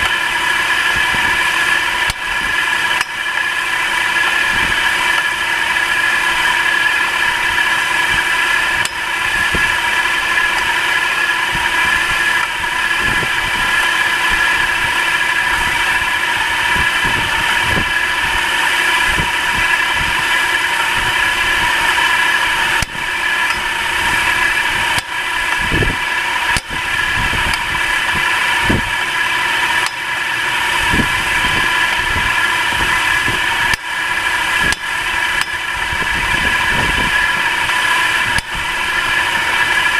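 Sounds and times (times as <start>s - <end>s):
steady high whine: 0.0s - 39.9s.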